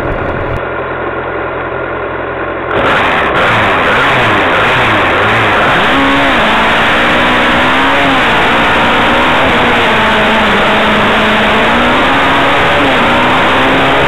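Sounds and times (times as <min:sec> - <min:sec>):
racing car engine at high revs: 0:02.6 - 0:14.0.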